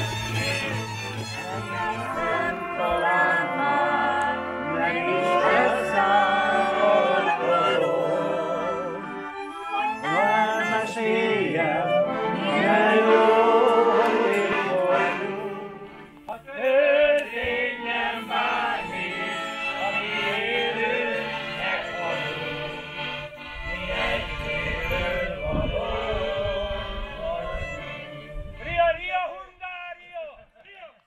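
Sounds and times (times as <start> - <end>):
group singing a folk song: 0.0 - 28.8
fiddle: 0.0 - 29.0.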